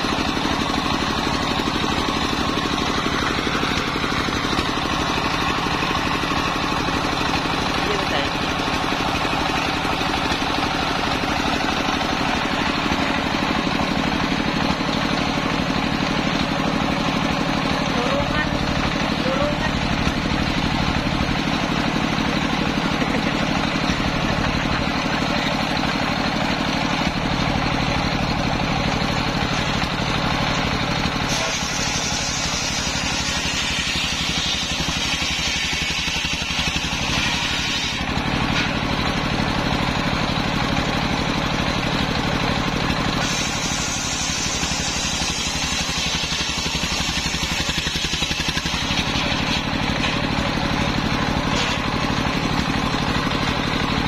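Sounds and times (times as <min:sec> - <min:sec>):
saw blade cutting wood: 0:00.0 - 0:39.0, 0:43.1 - 0:53.3
stationary engine running: 0:00.0 - 0:54.0.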